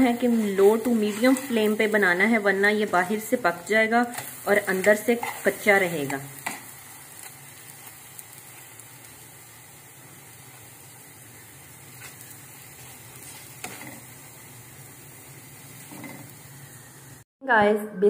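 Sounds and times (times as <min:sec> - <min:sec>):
batter sizzling in a frying pan: 0:00.0 - 0:17.3.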